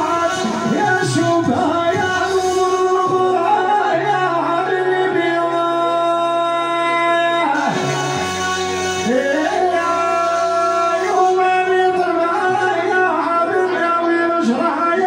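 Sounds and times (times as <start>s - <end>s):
electronic keyboard accompaniment: 0.0s - 15.0s
man singing into a microphone: 0.0s - 15.0s.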